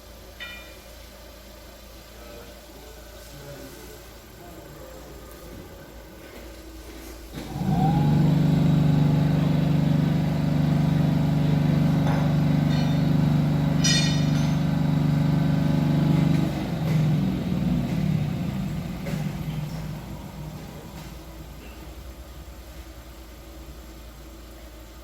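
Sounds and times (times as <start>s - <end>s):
vibration test stand hum: 4.1s - 25.0s.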